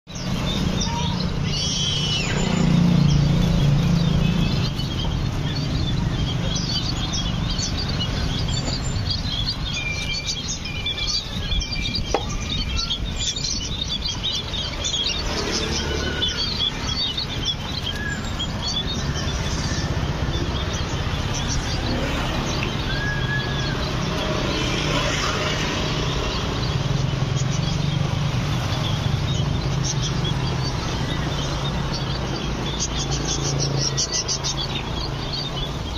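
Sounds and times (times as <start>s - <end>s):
small birds chirping: 0.0s - 35.9s
whistled bird notes: 0.1s - 35.9s.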